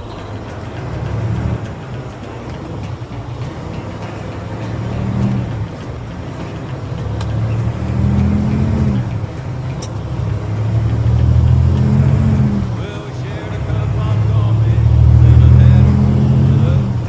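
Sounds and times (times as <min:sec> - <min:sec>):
faint turbo whistle: 0:00.0 - 0:17.0
turbocharged engine revving: 0:00.0 - 0:17.0.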